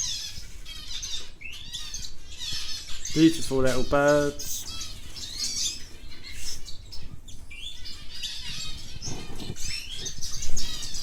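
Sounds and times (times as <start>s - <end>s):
canaries chirping and trilling: 0.0s - 11.0s.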